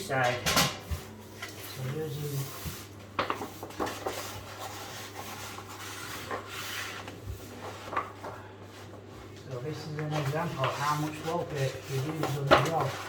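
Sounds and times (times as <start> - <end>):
paper rustling on a table: 0.8 - 13.0.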